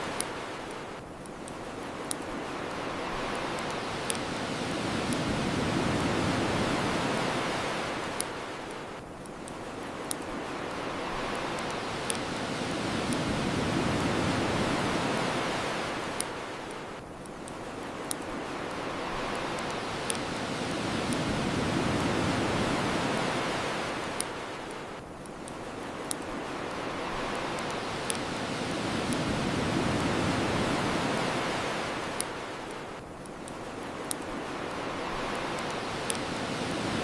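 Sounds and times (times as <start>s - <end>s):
bonfire crackling: 0.0s - 37.0s
ocean waves washing ashore: 0.0s - 37.0s.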